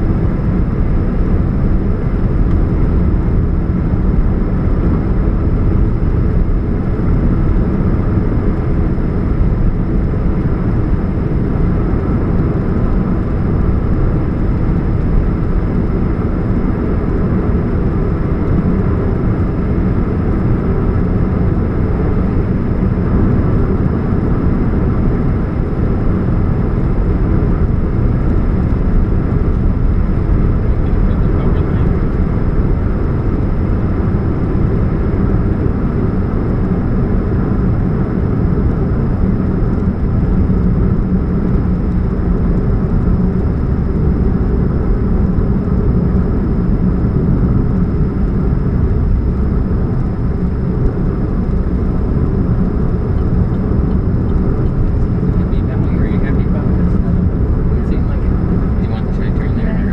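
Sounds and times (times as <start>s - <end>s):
car engine humming: 0.0s - 59.9s.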